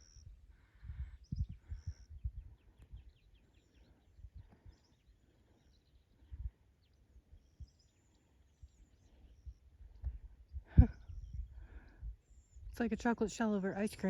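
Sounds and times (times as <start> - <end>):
bird chirping faintly: 0.0 - 12.8.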